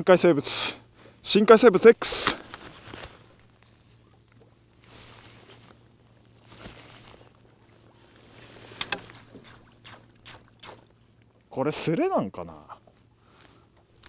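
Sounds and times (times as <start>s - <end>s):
low steady hum: 0.0s - 14.0s
wind and water noise: 0.0s - 14.0s.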